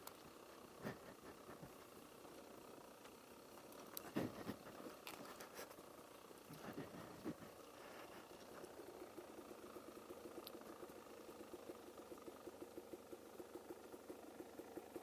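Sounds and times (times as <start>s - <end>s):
faint motorcycle engine idling: 0.0s - 15.0s.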